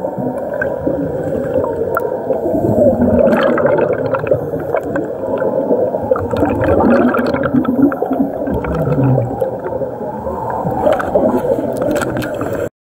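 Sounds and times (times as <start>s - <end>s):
underwater air bubbles gurgling: 0.0s - 12.7s.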